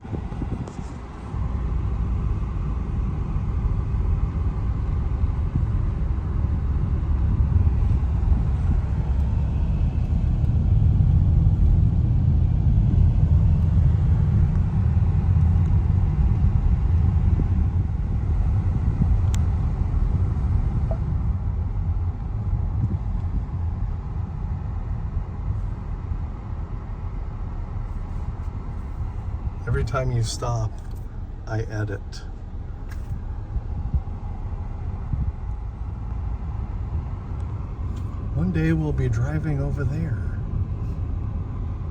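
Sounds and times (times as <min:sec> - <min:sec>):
car interior road rumble: 0:00.0 - 0:41.9.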